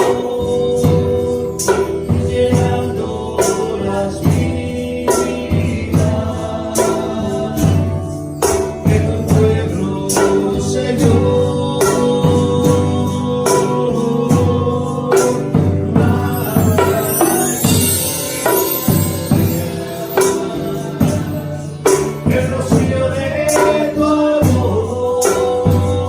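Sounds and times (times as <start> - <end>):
group singing praise song: 0.0 - 26.0
tambourine: 0.0 - 26.0.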